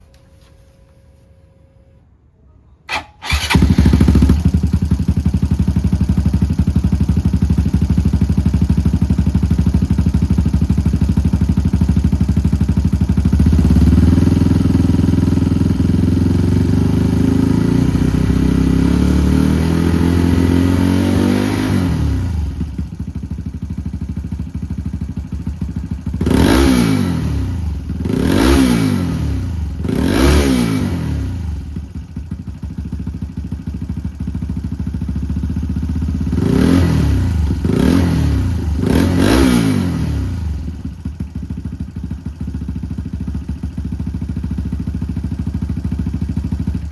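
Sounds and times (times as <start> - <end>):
motorcycle engine idling and revving: 2.9 - 46.9.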